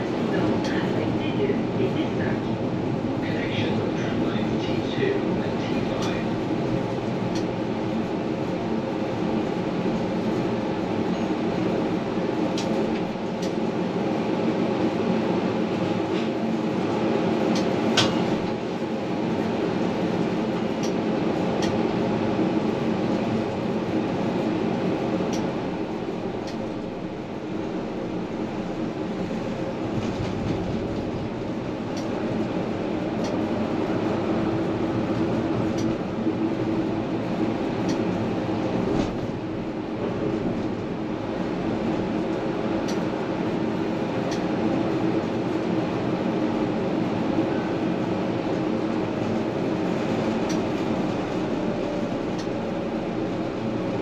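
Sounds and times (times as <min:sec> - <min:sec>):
constant hum: 0:00.0 - 0:54.0
tram rail rumble: 0:00.0 - 0:54.0.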